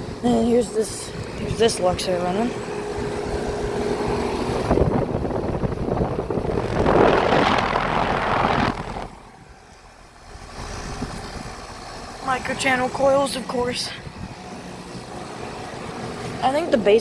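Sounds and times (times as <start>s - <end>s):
condenser fan rushing air: 0.0s - 17.0s.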